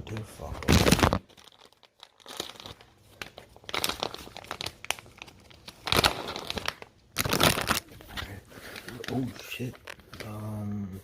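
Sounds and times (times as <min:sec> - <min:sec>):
plastic packaging crinkling and tearing: 0:00.0 - 0:10.6.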